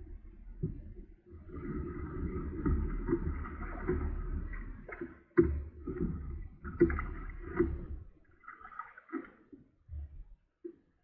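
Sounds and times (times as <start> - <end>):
water splashing against kayak: 0.0 - 10.2.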